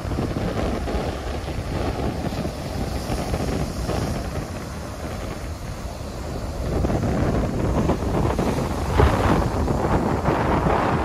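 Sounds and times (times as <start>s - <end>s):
ocean surf on sandy beach: 0.0s - 11.0s
wind buffeting microphone: 0.0s - 11.0s.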